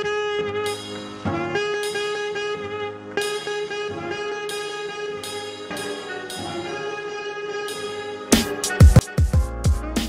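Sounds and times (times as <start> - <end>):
held chords: 0.0 - 10.0
hip-hop beat with deep kicks: 0.0 - 10.0.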